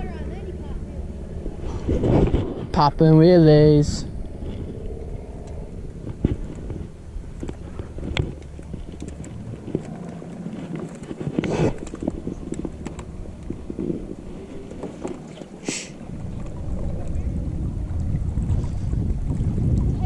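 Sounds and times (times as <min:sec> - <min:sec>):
water along boat hull: 0:00.0 - 0:20.0
wind on microphone: 0:00.0 - 0:20.0.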